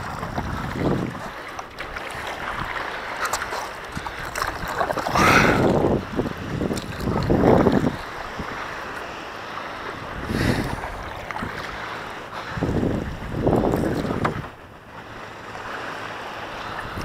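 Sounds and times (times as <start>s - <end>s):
wind buffeting microphone: 0.0s - 9.0s, 9.6s - 17.0s
shallow sea water wash: 0.0s - 17.0s.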